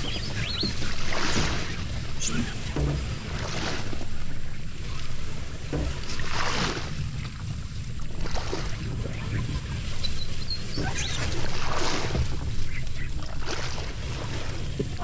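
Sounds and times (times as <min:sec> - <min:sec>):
boat hull scraping through grass: 0:00.0 - 0:15.0
wind on microphone: 0:00.0 - 0:15.0.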